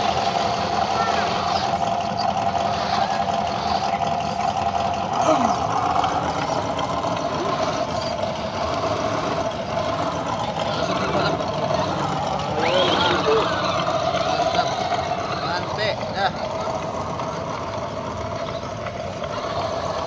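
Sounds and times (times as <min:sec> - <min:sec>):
rc car motor whine: 0:00.0 - 0:20.0
rough running noise: 0:00.0 - 0:20.0.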